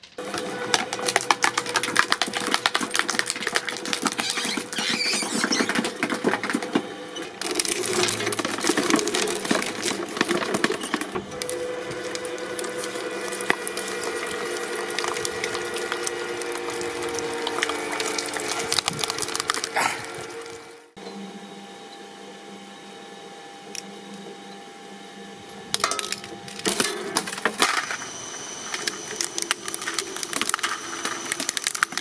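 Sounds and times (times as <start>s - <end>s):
hydraulic press crushing crackling: 0.0s - 21.0s, 25.7s - 32.0s.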